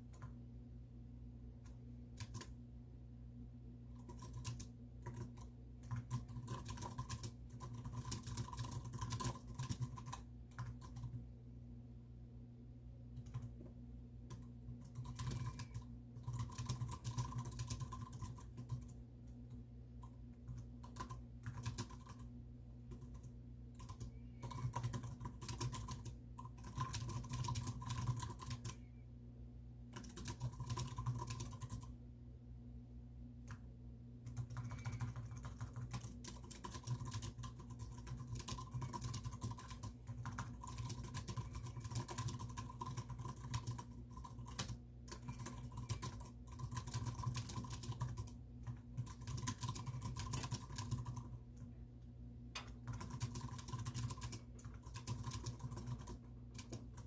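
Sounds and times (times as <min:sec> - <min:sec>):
keyboard typing clicks: 0:00.1 - 0:00.4, 0:01.6 - 0:02.6, 0:03.9 - 0:11.2, 0:13.2 - 0:13.7, 0:14.3 - 0:22.3, 0:22.9 - 0:28.9, 0:29.9 - 0:31.9, 0:34.2 - 0:51.7, 0:52.6 - 0:57.0.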